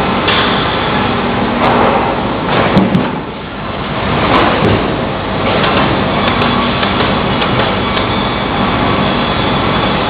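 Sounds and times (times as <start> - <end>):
conveyor rolls din: 0.0 - 10.0.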